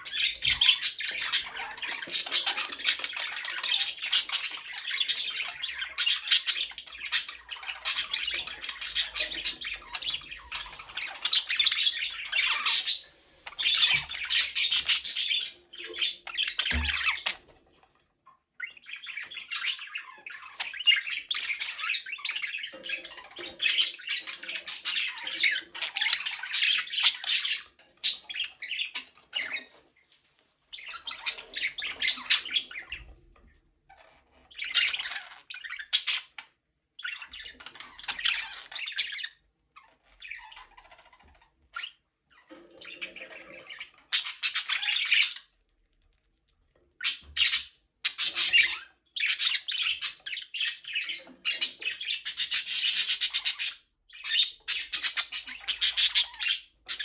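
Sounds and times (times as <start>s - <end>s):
budgerigars chirping: 0.0s - 17.5s, 18.6s - 29.8s, 30.8s - 33.1s, 33.9s - 45.5s, 47.0s - 57.0s.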